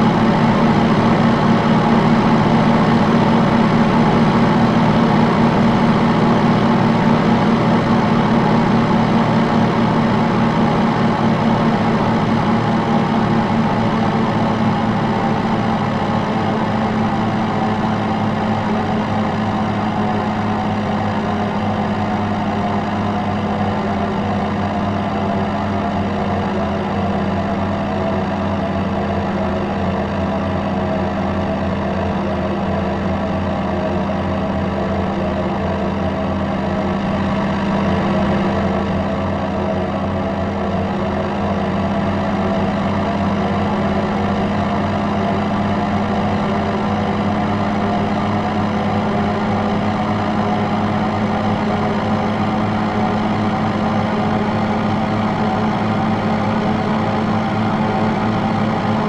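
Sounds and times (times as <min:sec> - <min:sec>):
aircraft propeller engines droning: 0:00.0 - 0:59.0.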